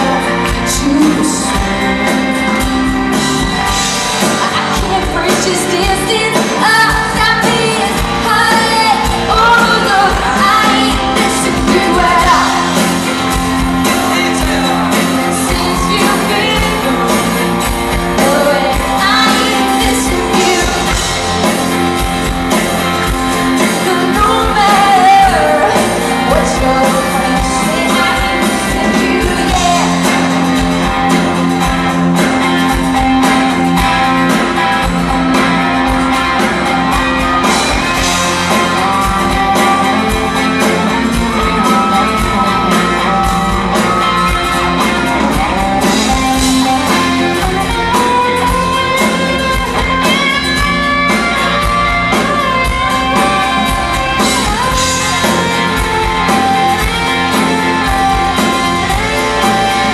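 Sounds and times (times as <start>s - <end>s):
lead guitar solo: 0.0s - 59.9s.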